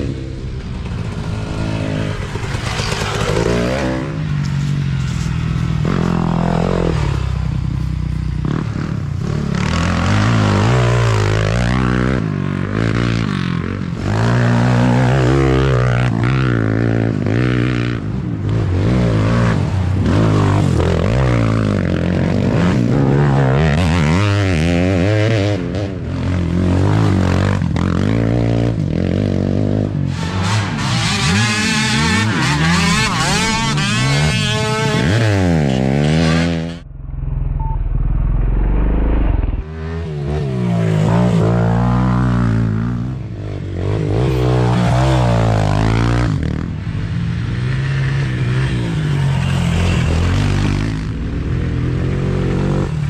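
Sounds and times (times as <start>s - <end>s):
off-road engines revving: 0.0s - 36.9s, 38.7s - 53.0s.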